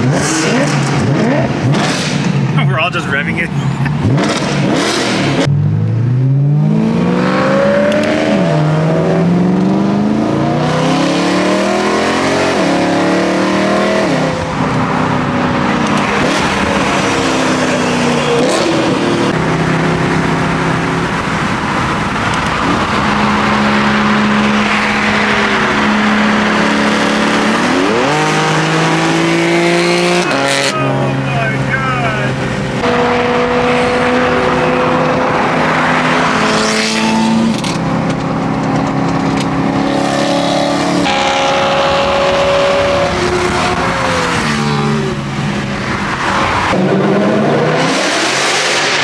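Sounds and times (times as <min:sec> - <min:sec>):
car engine revving through gears: 0:00.0 - 0:49.0.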